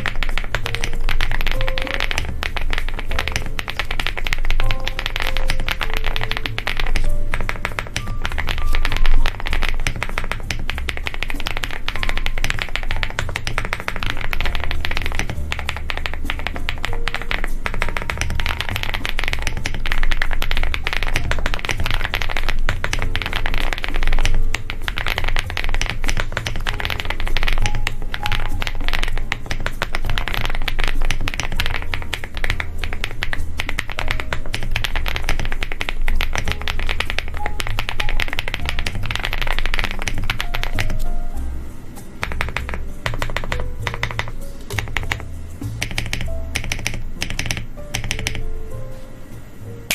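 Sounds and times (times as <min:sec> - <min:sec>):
fast mechanical keyboard typing: 0:00.0 - 0:41.1, 0:42.2 - 0:48.4.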